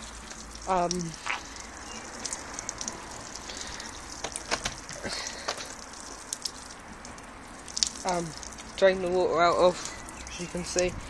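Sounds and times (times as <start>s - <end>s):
drip-like ticks: 0.0s - 10.9s
water draining and spattering: 0.0s - 11.0s.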